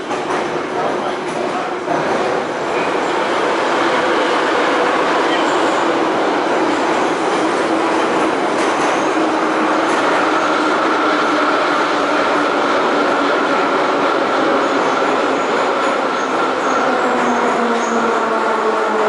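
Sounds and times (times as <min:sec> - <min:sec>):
train wheels rushing and rumbling: 0:00.0 - 0:19.0.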